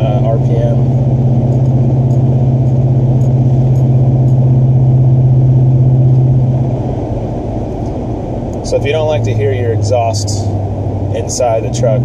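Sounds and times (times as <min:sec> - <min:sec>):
exhaust drone inside truck cab: 0:00.0 - 0:12.0.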